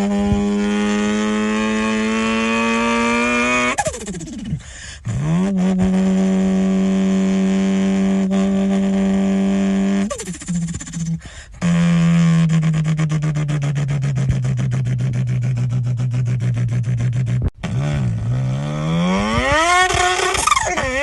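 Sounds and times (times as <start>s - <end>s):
car engine revving: 0.0s - 11.2s, 12.3s - 21.0s.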